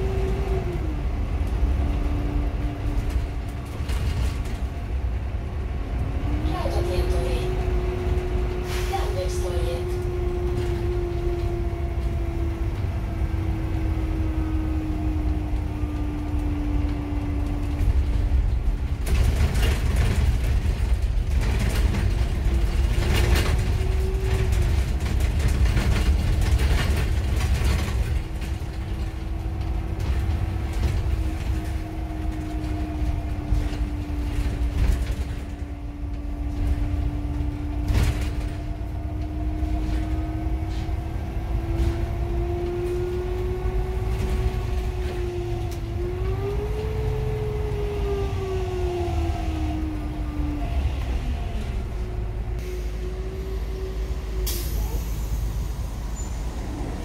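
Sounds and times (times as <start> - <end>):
rattling and knocks in bus: 0.0 - 47.7
bus engine droning: 0.0 - 57.0.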